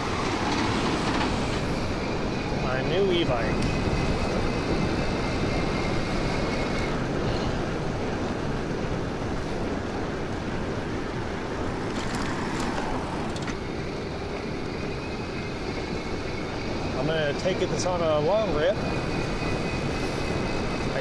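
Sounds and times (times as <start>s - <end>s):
road and tyre noise: 0.0s - 21.0s
wind rushing over microphone: 0.0s - 21.0s.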